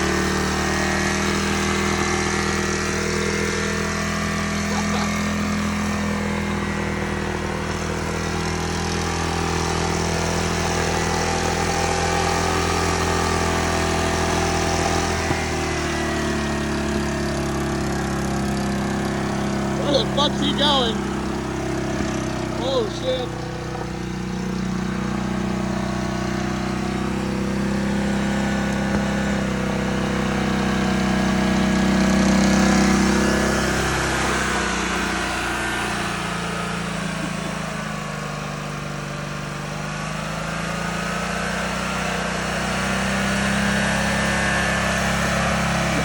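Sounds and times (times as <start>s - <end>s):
lawn mower engine under load: 0.0s - 46.0s.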